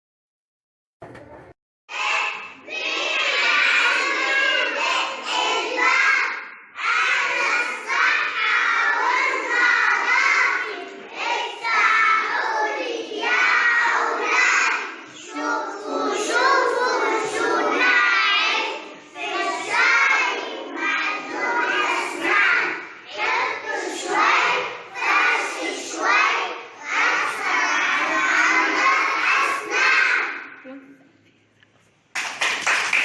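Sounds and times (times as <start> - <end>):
children singing: 1.9 - 30.7.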